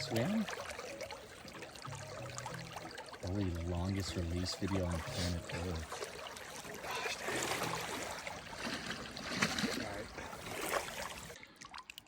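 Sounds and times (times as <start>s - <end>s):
water splashing and running: 0.0s - 12.0s.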